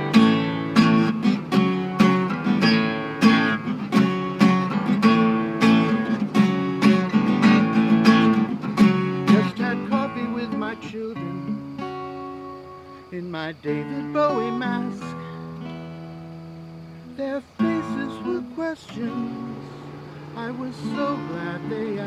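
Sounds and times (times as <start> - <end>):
guitar strumming chords: 0.0 - 22.0.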